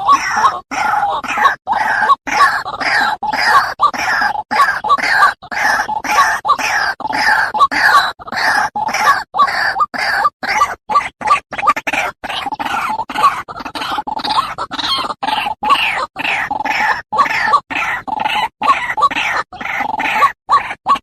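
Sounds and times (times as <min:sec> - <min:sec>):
bird harsh croaking calls: 0:00.0 - 0:21.0.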